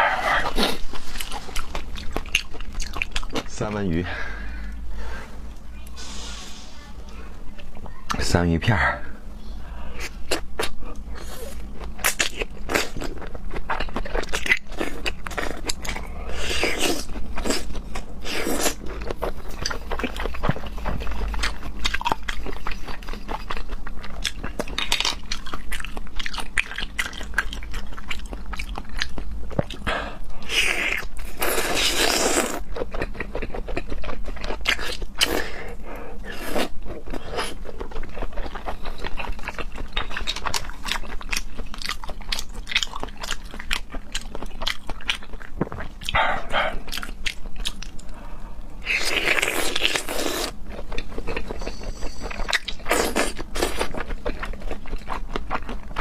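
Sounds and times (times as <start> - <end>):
wet chewing with mouth clicks: 0.3 - 3.5, 9.9 - 56.0.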